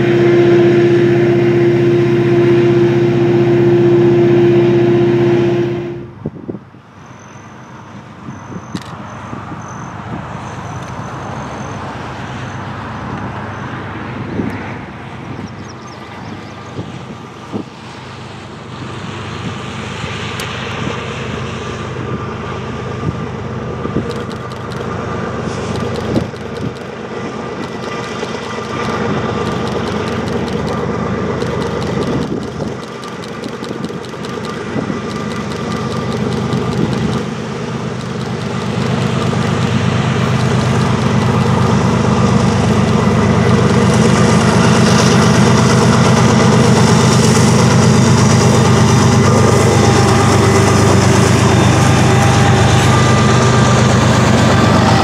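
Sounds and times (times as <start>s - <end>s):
diesel locomotive engine hum: 0.0s - 55.0s.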